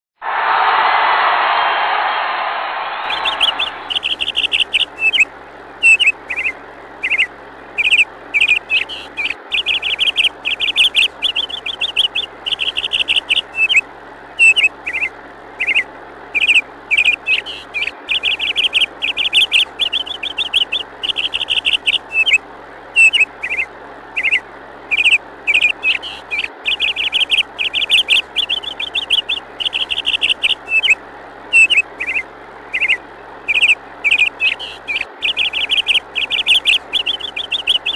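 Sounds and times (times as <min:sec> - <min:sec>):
birds chirping and trilling: 0:03.1 - 0:37.9.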